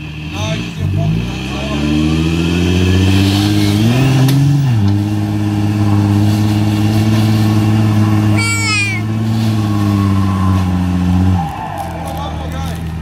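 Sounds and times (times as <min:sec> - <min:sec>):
diesel engine pulling under load: 0:00.0 - 0:13.0.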